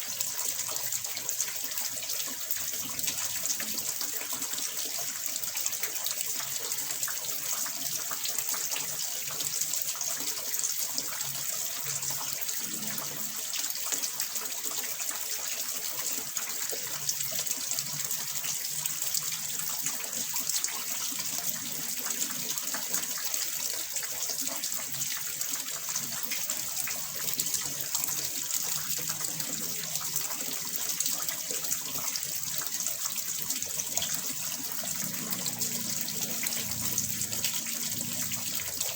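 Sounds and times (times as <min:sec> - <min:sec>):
water pouring into a pond: 0:00.0 - 0:38.9.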